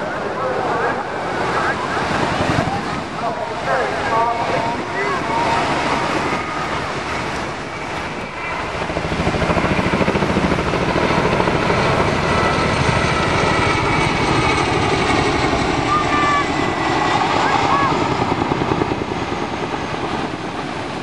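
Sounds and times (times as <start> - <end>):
helicopter engine noise: 0.0 - 21.0
helicopter rotor beat: 0.0 - 21.0.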